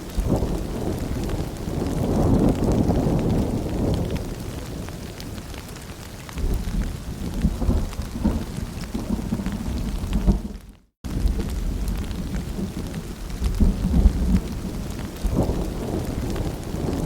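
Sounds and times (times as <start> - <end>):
rain pattering: 0.0 - 17.0
rolling thunder: 0.0 - 17.0.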